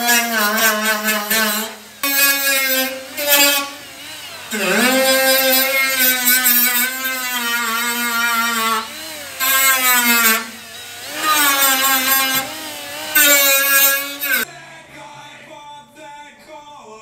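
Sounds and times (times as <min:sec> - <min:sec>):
die grinder whining on sheet steel: 0:00.0 - 0:14.5.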